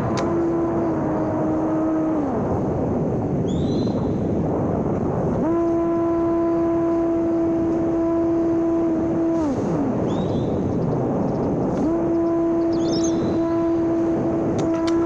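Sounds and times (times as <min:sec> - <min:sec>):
wind rushing: 0:00.0 - 0:14.8
electric motor and propeller hum: 0:00.0 - 0:15.0.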